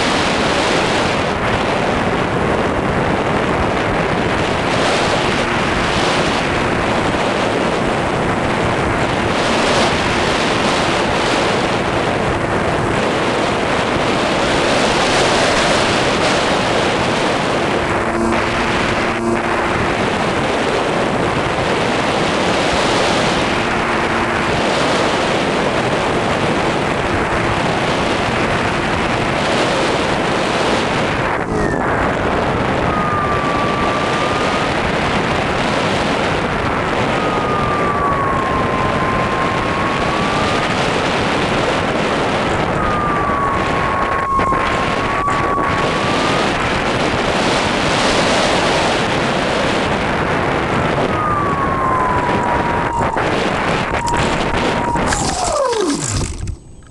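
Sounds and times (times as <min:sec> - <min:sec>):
electric motor whine: 0:00.0 - 0:56.9
wind noise on microphone: 0:00.0 - 0:56.9.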